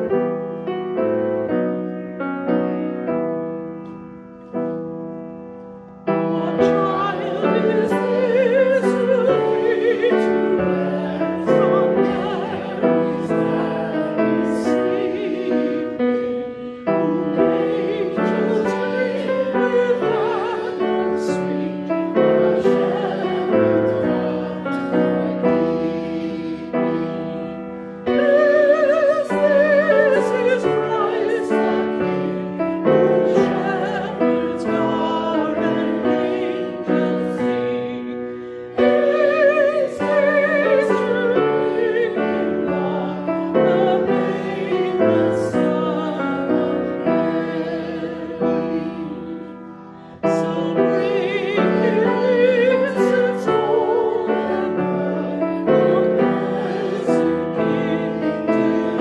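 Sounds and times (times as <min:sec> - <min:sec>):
congregation singing: 0:00.0 - 0:59.0
piano accompaniment: 0:00.0 - 0:59.0.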